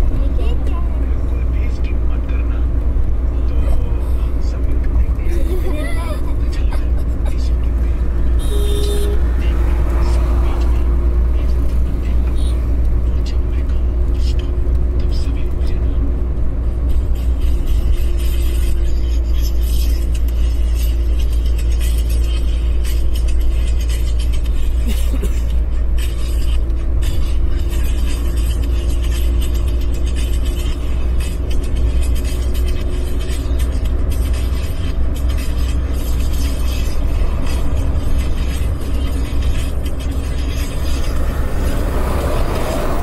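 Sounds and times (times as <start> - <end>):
road and engine rumble: 0.0 - 43.0.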